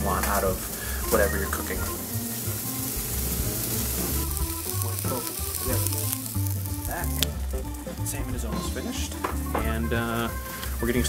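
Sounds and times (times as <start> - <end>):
oil sizzling in pans: 0.0 - 11.0.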